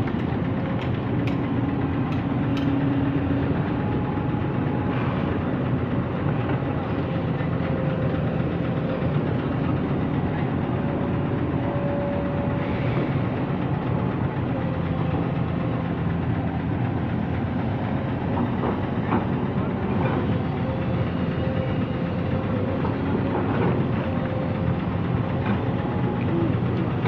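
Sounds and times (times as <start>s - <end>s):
excavator engine and hydraulics: 0.0s - 27.0s.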